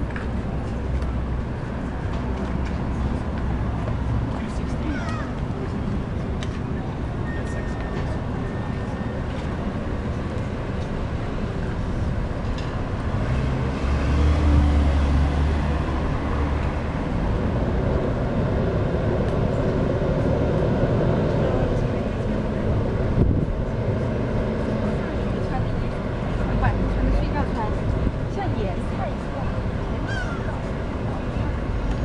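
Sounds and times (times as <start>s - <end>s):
heavy vehicle rumble passing: 0.0s - 32.0s
street traffic: 0.0s - 32.0s.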